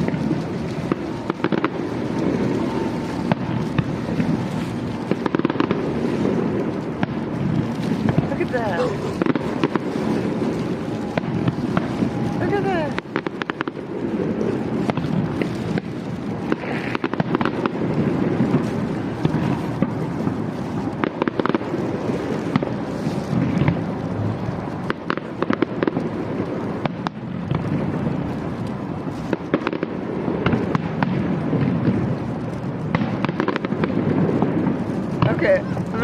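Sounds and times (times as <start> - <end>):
fireworks bursts and crackles: 0.0 - 36.0.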